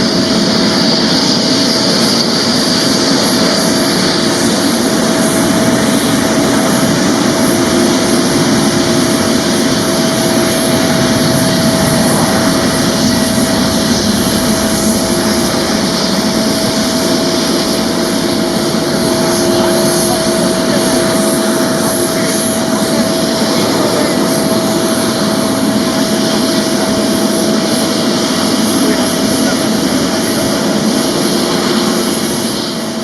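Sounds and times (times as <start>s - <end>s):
jet engines roaring at takeoff: 0.0s - 33.0s.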